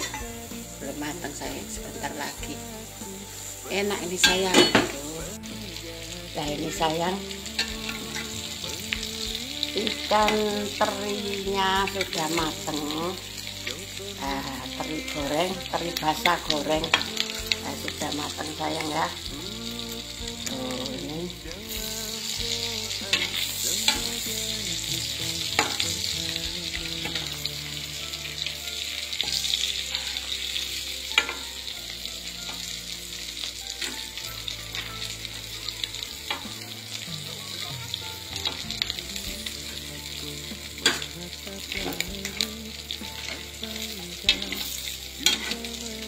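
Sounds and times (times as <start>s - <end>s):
fritters sizzling in hot oil: 0.0s - 46.0s.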